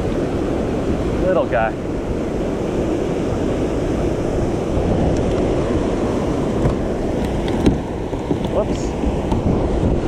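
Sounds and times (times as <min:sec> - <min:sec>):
water rushing at a dam: 0:00.0 - 0:10.0
wind noise on microphone: 0:00.0 - 0:10.0.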